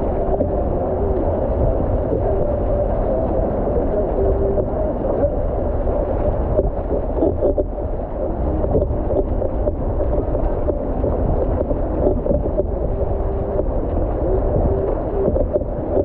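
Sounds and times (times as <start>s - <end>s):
water churning against hull: 0.0s - 16.0s
wind buffeting microphone: 0.0s - 16.0s.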